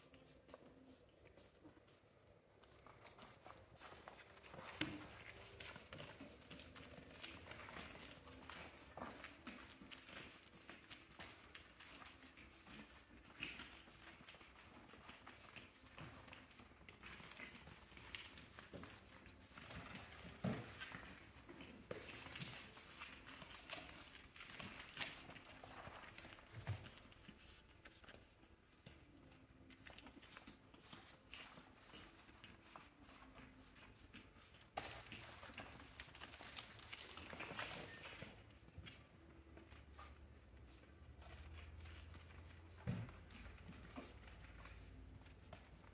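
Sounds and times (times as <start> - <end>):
puppy paws scuffling and clicking: 0.0 - 45.9.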